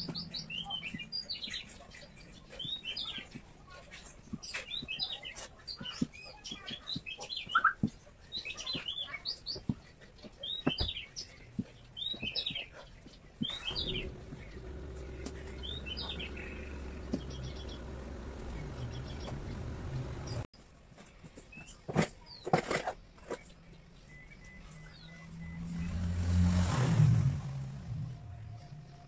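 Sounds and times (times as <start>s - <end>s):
small birds chirping: 0.0s - 20.5s, 21.4s - 26.3s.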